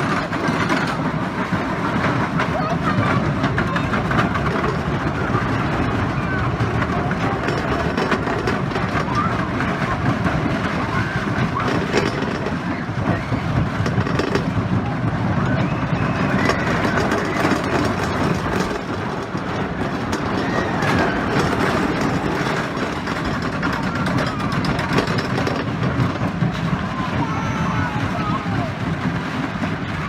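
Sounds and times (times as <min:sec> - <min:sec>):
roller coaster rumbling on track: 0:00.0 - 0:30.0.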